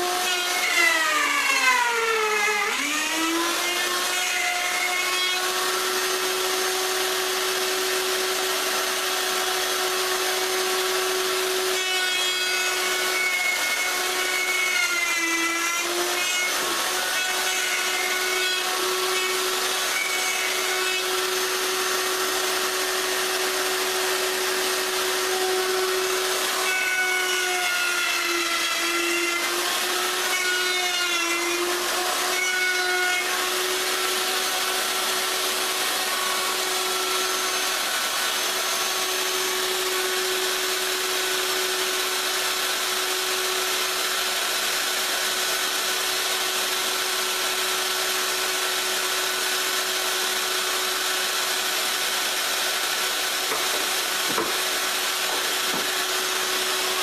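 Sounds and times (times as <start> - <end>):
electric router cutting wood: 0.0 - 57.0.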